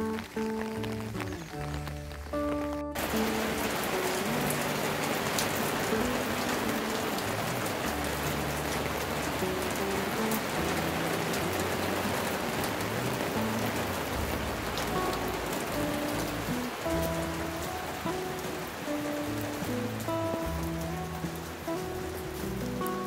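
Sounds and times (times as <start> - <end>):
rain pattering on ledge: 0.0 - 23.0
soft slow background music: 0.0 - 23.0.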